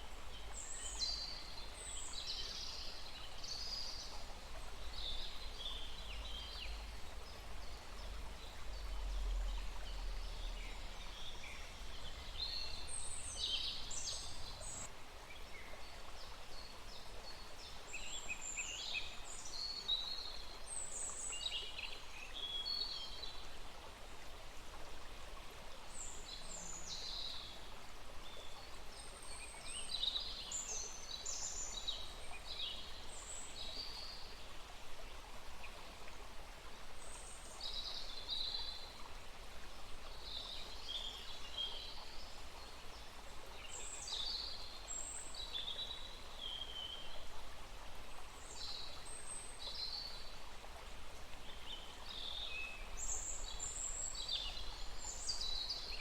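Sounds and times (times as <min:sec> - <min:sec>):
stream running: 0:00.0 - 0:56.0.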